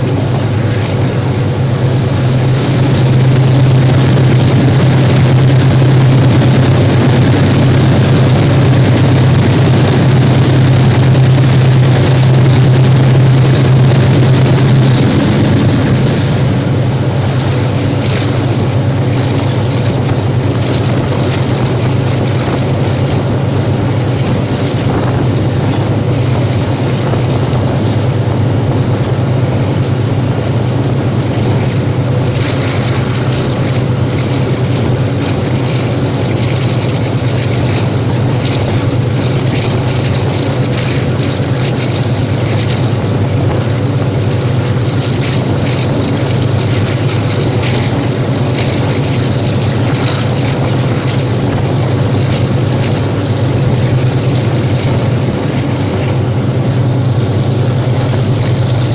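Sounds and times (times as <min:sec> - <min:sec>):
diesel locomotive engine under load: 0:00.0 - 0:58.9
faint steady whine: 0:00.0 - 0:58.9.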